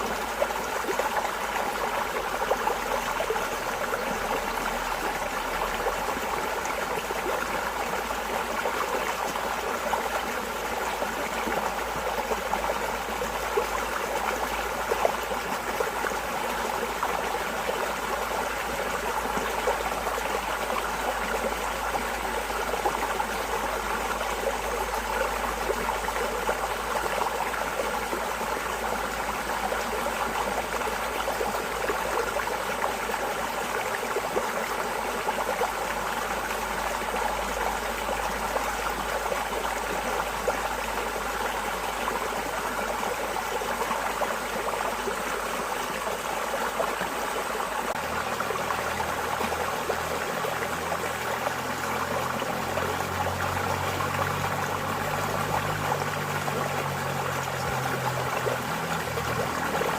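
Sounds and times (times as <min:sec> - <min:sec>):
running water flowing: 0:00.0 - 0:59.9.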